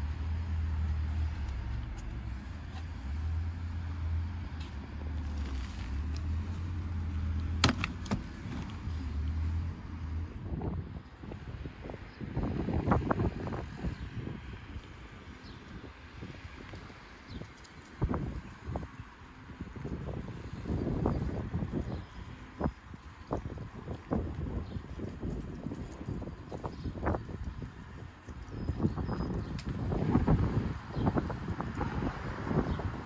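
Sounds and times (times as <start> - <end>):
wind rumble on microphone: 0.0 - 33.0.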